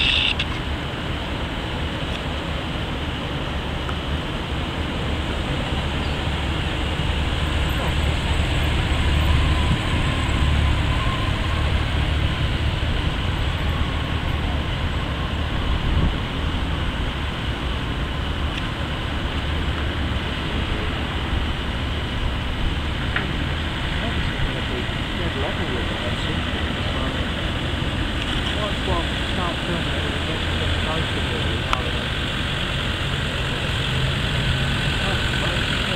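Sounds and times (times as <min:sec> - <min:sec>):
pickup engine and tyres: 0:00.0 - 0:35.9
road traffic rumble: 0:00.0 - 0:35.9.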